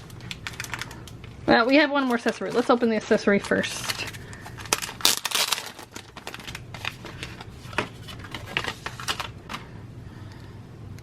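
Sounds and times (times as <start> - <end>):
packaging clicks and rustles: 0.0 - 1.4, 2.0 - 9.7.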